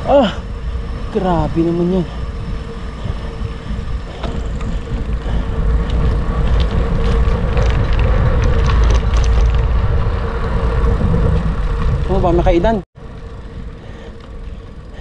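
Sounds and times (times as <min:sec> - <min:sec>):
bicycle tyre noise: 0:00.0 - 0:15.0
wind buffeting microphone: 0:00.0 - 0:15.0
small rattles and ticks: 0:00.2 - 0:15.0.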